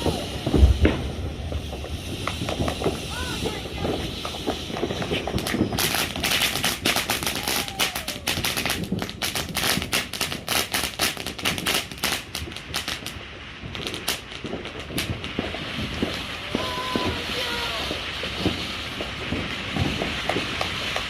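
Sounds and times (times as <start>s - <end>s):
firecrackers popping: 0.0s - 21.0s.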